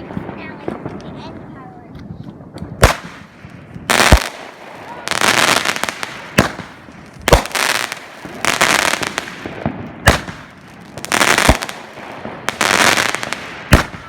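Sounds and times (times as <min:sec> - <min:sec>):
crackling hiss of fireworks: 0:00.0 - 0:14.0
firework bangs: 0:00.0 - 0:14.0.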